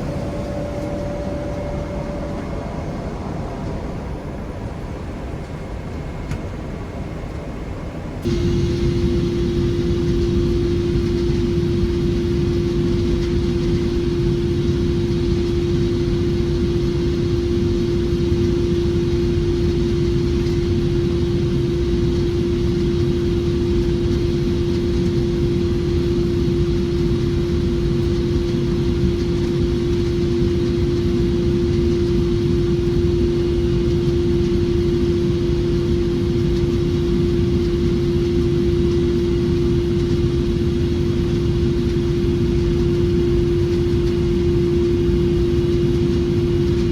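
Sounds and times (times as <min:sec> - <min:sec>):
constant mid-pitched hum: 0:00.0 - 0:46.9
low rumble of engine and airflow: 0:00.0 - 0:46.9.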